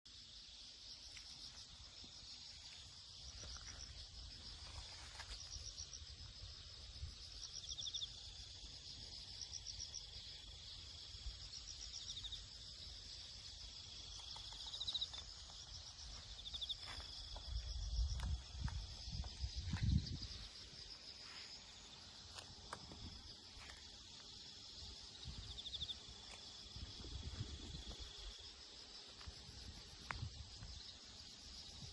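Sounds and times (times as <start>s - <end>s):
insects trilling: 0.1s - 31.9s.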